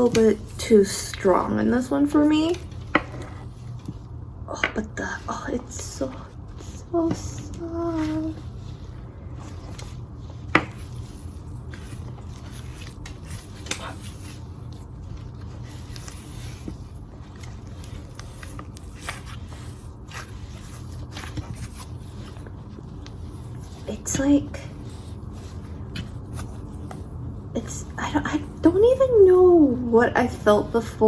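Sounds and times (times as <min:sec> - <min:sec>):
slime squishing with sticky crackles: 0:00.0 - 0:31.0
steady low hum: 0:00.0 - 0:31.0.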